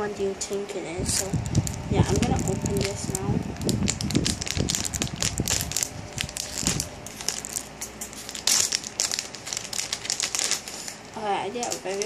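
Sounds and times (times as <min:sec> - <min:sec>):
wrapper crinkling: 0:01.1 - 0:12.0
packaging being ripped open: 0:01.2 - 0:11.0.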